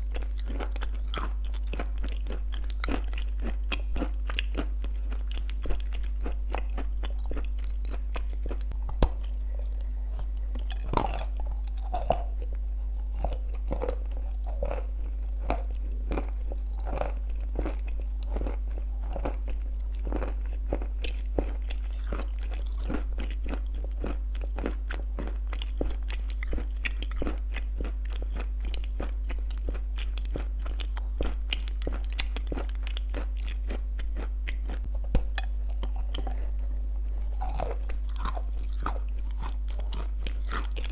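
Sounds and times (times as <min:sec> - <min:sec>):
crunchy cookie chewing: 0:00.0 - 0:40.9
steady low hum: 0:00.0 - 0:40.9.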